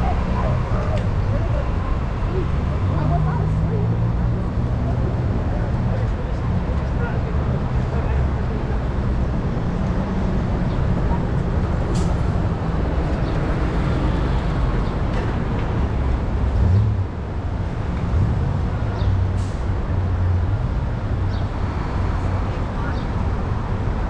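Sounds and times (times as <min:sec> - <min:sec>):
road and traffic rumble: 0:00.0 - 0:24.0.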